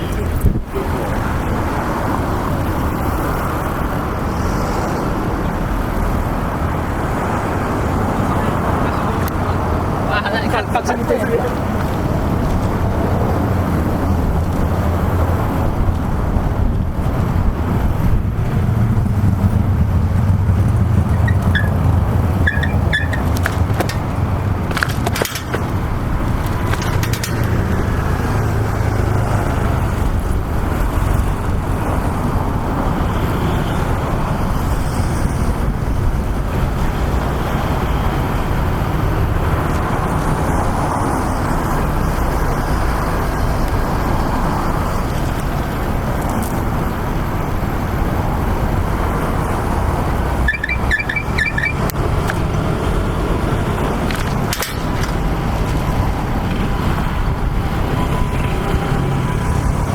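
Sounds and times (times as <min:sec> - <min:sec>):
city road traffic rumble: 0:00.0 - 0:59.9.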